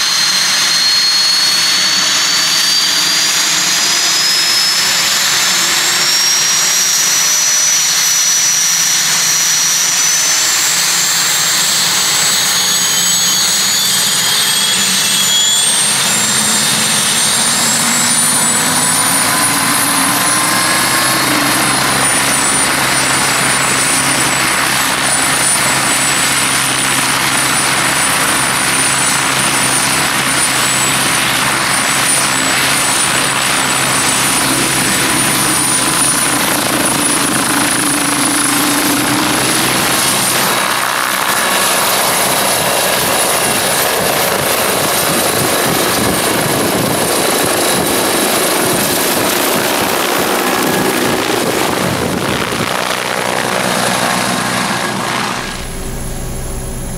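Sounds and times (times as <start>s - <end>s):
high turbine whine: 0.0s - 56.9s
low rotor hum: 0.0s - 56.9s.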